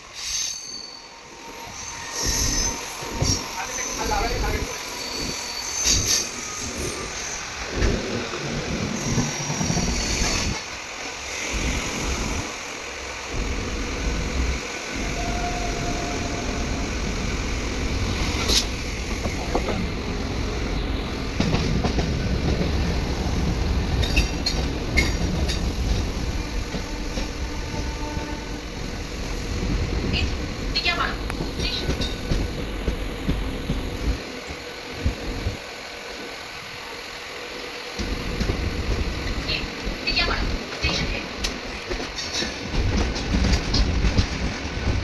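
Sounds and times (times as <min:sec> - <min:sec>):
diesel train rumbling: 0:01.1 - 0:45.0.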